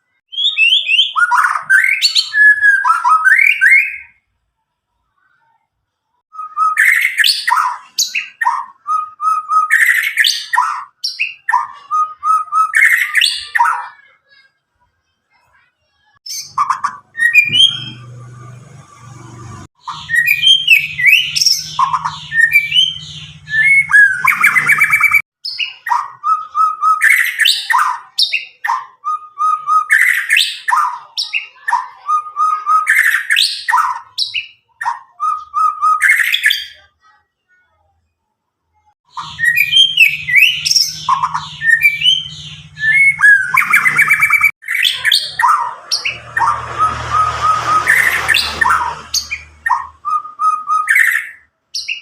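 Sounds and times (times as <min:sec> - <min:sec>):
bird singing whistled phrases: 0:00.3 - 0:04.2, 0:06.3 - 0:13.9, 0:16.3 - 0:18.2, 0:19.8 - 0:36.8, 0:39.1 - 0:52.0.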